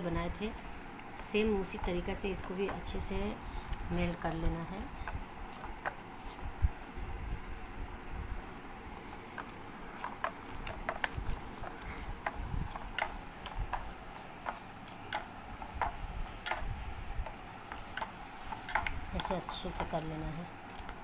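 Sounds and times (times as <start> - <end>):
hand mashing on steel plate: 0.6 - 6.5, 9.1 - 21.0.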